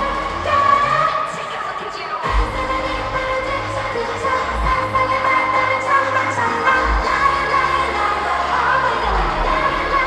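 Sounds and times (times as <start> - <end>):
pop song with singing over speakers: 0.0 - 10.0.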